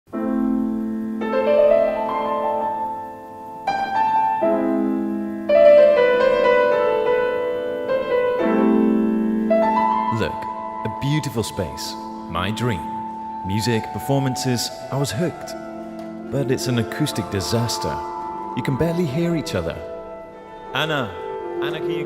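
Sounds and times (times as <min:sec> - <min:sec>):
slow piano music: 0:00.1 - 0:22.0.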